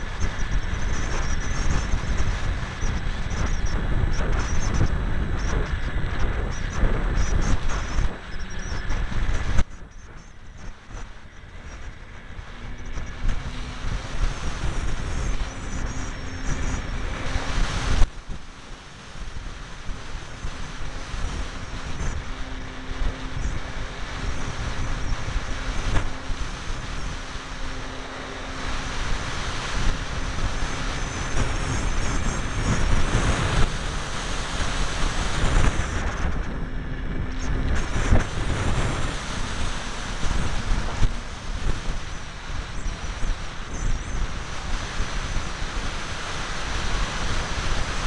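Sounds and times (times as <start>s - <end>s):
electric motor and propeller hum: 0.0s - 48.0s
wind rushing over microphone: 0.0s - 48.0s.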